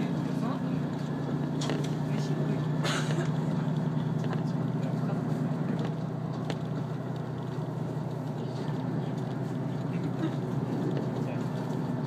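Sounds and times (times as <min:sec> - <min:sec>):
diesel engine drone: 0:00.0 - 0:12.0
wheels running on rails: 0:00.0 - 0:12.0.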